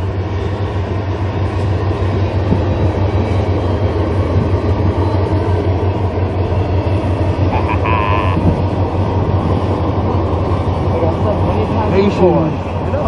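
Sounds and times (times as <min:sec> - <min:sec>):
diesel locomotives crossing bridge: 0:00.0 - 0:13.0
freight cars rumbling on rails: 0:00.0 - 0:13.0.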